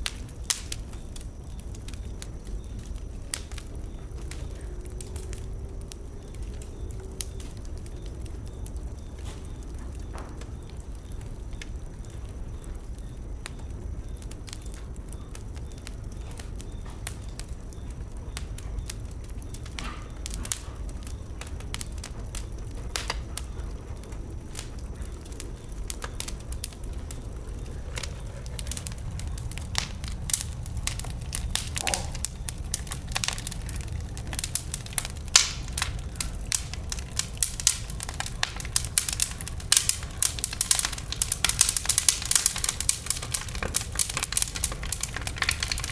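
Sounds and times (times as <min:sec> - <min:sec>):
bonfire crackling and popping: 0:00.0 - 0:45.9
low steady rumble: 0:00.0 - 0:45.9.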